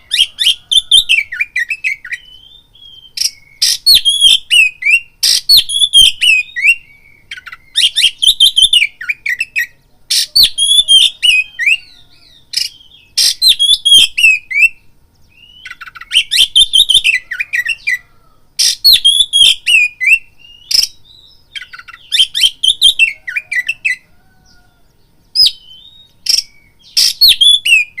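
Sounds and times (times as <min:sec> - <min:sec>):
bird singing whistled phrases: 0:00.0 - 0:24.6, 0:25.3 - 0:28.0.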